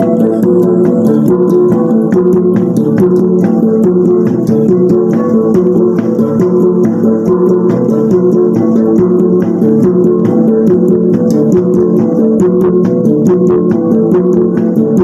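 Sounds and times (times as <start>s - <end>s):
gong ensemble playing: 0.0s - 13.7s.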